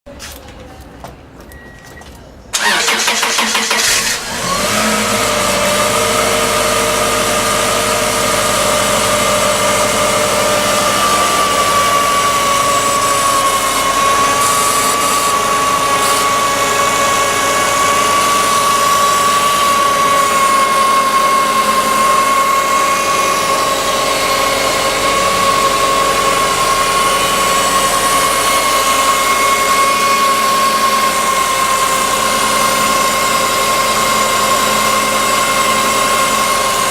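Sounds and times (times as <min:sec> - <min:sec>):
engine idling with high-pitched howl: 0:02.5 - 0:36.9
engine starter cranking: 0:02.5 - 0:36.9.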